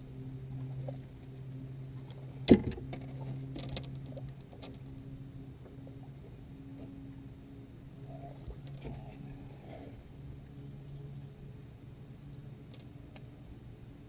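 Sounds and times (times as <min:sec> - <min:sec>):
boat engine hum: 0:00.0 - 0:14.0.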